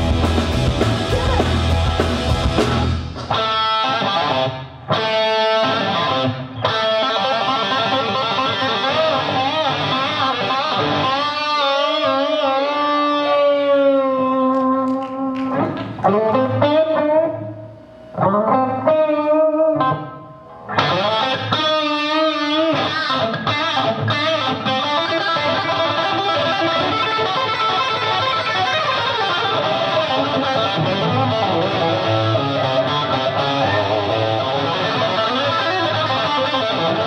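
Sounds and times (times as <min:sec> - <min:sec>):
electric guitar solo: 0:00.0 - 0:37.0.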